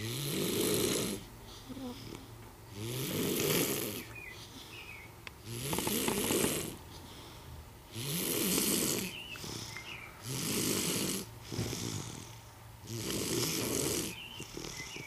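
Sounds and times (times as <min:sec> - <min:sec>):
baby snoring: 0:00.0 - 0:04.1, 0:05.4 - 0:06.8, 0:07.9 - 0:15.0.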